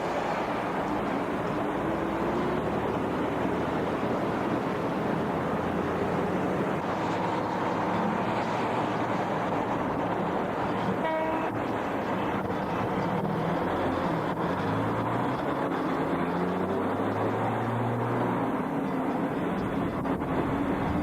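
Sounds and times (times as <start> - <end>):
traffic on a bridge: 0.0 - 21.0.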